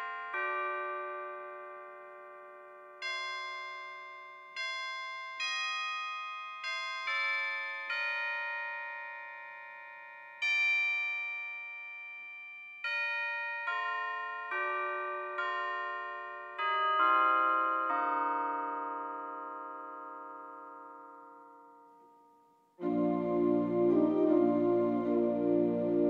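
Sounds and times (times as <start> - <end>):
bell-like hymn notes: 0.0 - 26.0.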